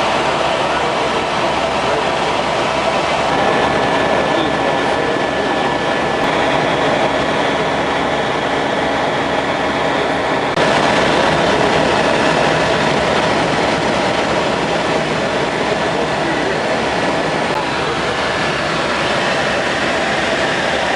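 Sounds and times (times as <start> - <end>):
helicopter engine and rotor noise: 0.0 - 20.9
thin high whine: 0.0 - 20.9.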